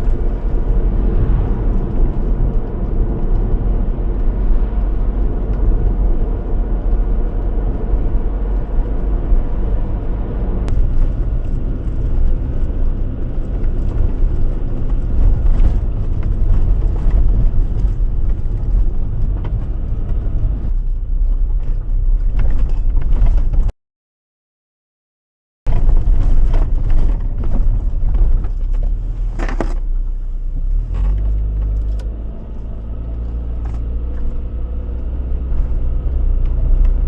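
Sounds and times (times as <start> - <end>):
car engine and road noise: 0.0 - 23.7, 25.7 - 37.0.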